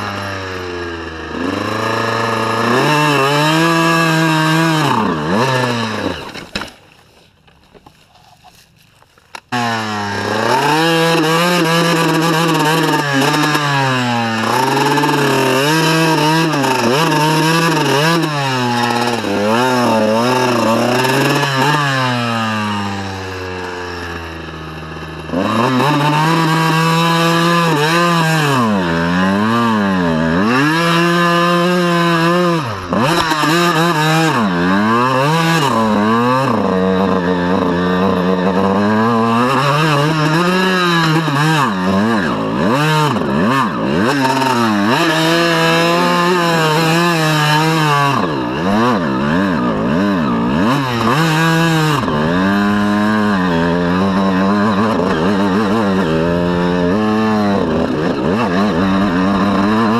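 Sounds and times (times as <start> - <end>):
dirt bike engine revving: 0.0 - 6.7, 9.3 - 59.9.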